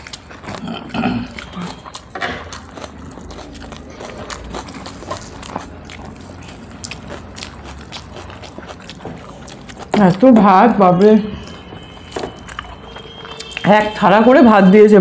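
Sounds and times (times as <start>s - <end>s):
mouths chewing: 0.0s - 14.3s.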